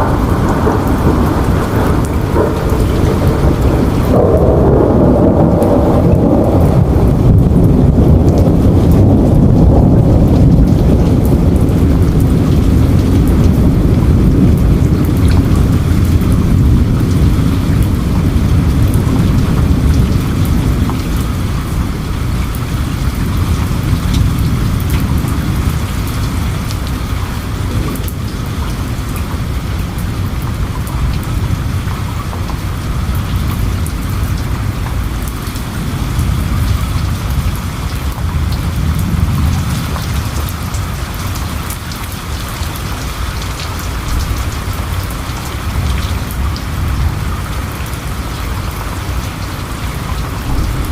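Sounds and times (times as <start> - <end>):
deep rumble of thunder: 0.0 - 50.9
steady rain pattering: 0.0 - 50.9.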